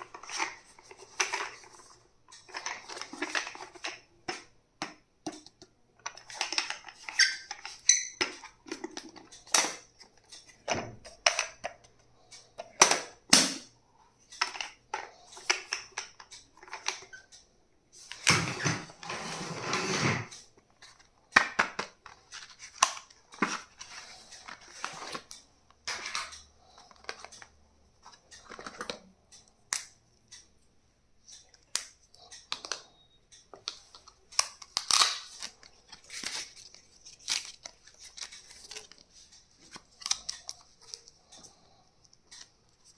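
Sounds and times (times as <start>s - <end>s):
clicks and taps of handled items: 0.0s - 17.5s, 20.6s - 42.9s.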